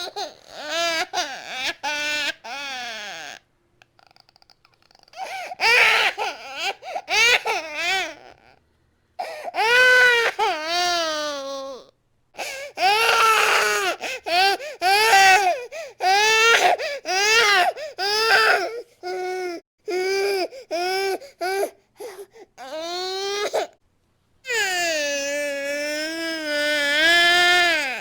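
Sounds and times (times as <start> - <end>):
infant crying: 0.0 - 3.4, 5.1 - 8.6, 9.2 - 23.8, 24.5 - 28.0.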